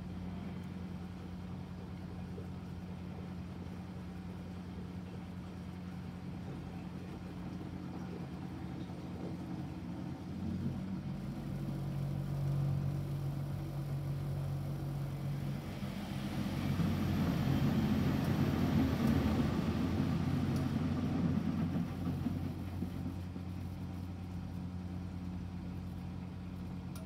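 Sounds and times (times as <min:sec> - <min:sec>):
drum motor humming: 0:00.0 - 0:27.0
washing machine tumbling: 0:00.0 - 0:27.0.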